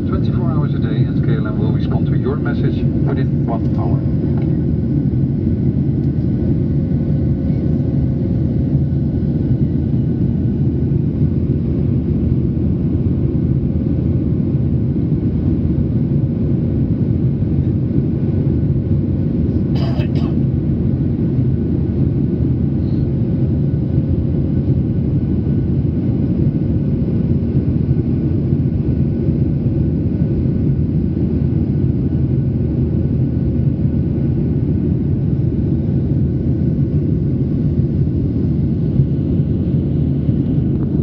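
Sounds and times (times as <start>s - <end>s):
jet engines rumbling: 0.0s - 41.0s.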